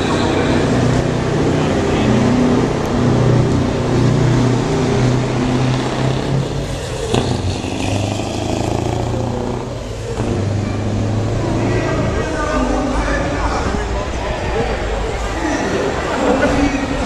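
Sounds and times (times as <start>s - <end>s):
truck engine driving past: 0.0s - 17.0s.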